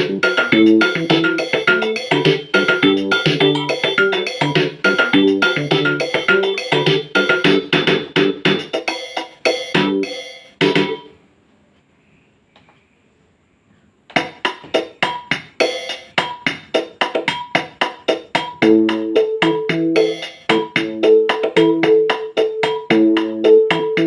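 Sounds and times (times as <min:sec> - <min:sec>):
accompaniment chords and bass line: 0:00.0 - 0:11.1, 0:14.2 - 0:24.0
keyboard drum rhythm pattern: 0:00.0 - 0:11.1, 0:14.1 - 0:24.0.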